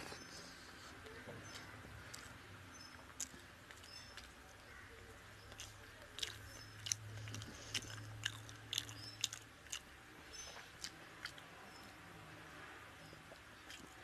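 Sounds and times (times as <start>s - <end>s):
wet chewing mouth clicks: 1.0s - 12.0s, 13.1s - 14.0s.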